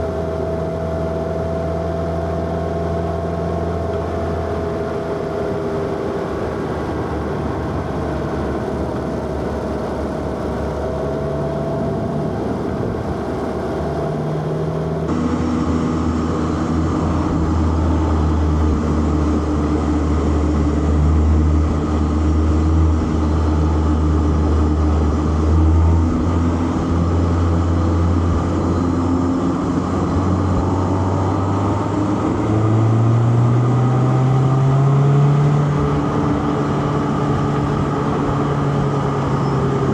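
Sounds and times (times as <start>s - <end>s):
car engine accelerating: 0.0s - 39.9s
road and tyre noise: 0.0s - 39.9s.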